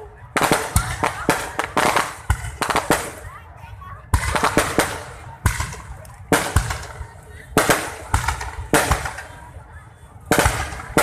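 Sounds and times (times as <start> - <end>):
fireworks cracking: 0.0 - 9.6, 10.2 - 11.0.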